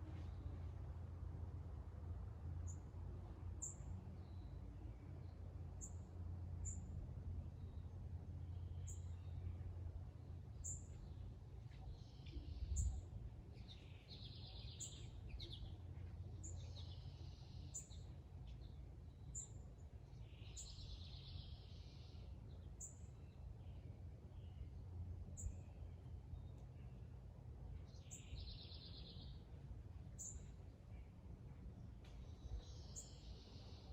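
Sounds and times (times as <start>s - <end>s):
faint low rumble: 0.0s - 33.9s
trilled birdsong: 3.6s - 33.9s.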